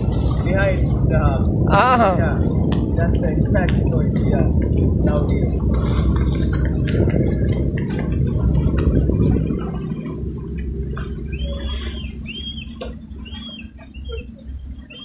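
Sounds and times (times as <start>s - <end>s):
water rushing and splashing: 0.0s - 15.0s.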